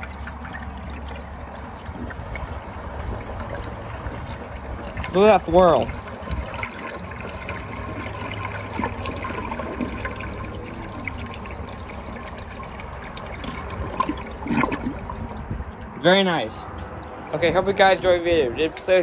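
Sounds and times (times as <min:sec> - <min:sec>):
toilet flushing: 0:00.0 - 0:15.4
water trickling from rim: 0:00.0 - 0:16.0.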